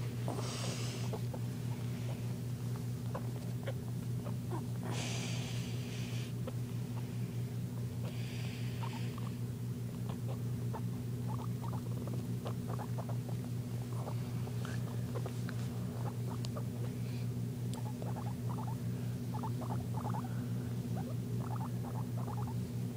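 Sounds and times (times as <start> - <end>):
steady low hum: 0.0 - 22.9
guinea pig squeaking: 0.2 - 5.2, 7.8 - 17.0, 17.7 - 22.6.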